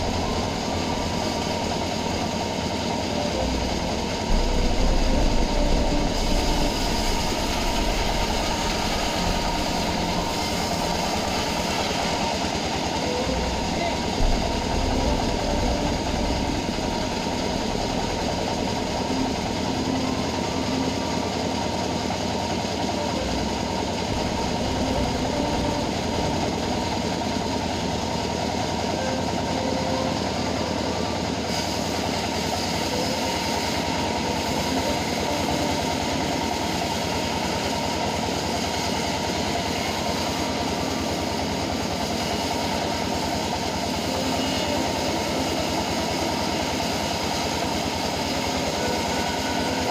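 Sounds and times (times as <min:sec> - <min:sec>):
band sawmill running: 0:00.0 - 0:49.9.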